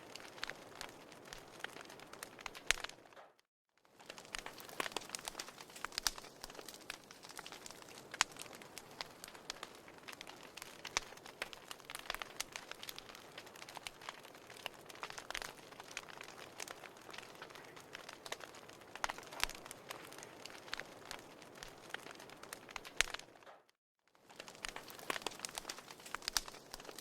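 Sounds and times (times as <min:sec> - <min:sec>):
fire crackling and popping: 0:00.0 - 0:27.0.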